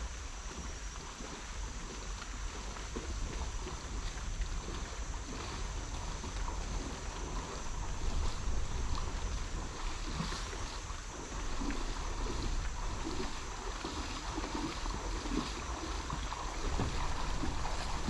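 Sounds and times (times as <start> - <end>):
river water flowing: 0.0 - 18.0
water splashes: 0.0 - 18.0
wind buffeting microphone: 3.0 - 18.0.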